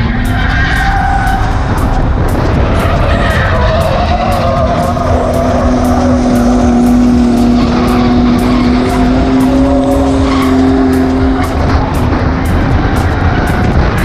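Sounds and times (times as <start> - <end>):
car engine at high revs: 0.0 - 14.0
tyres skidding: 0.0 - 14.0.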